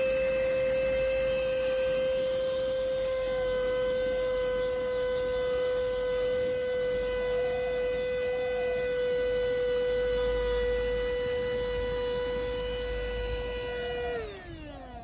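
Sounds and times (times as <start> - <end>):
mini vacuum motor whine: 0.0 - 15.0.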